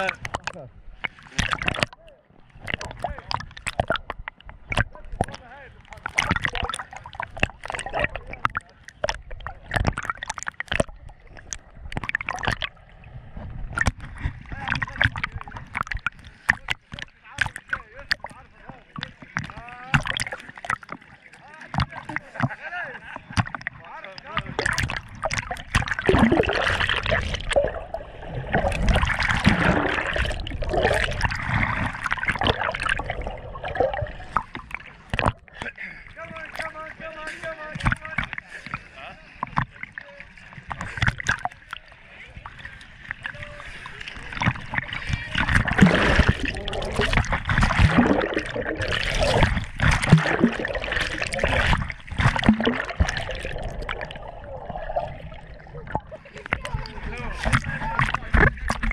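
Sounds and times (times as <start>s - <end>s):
underwater water rushing and bubbling: 0.0s - 58.9s.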